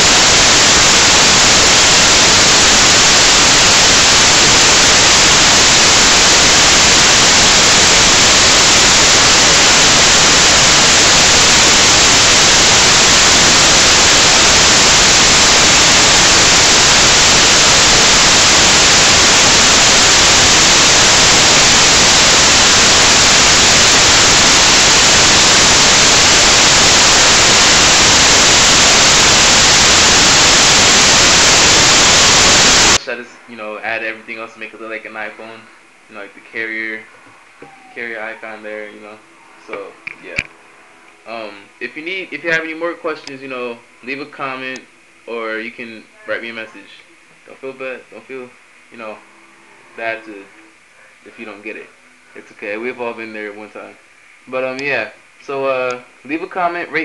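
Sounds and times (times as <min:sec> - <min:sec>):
loud static hiss: 0:00.0 - 0:57.0.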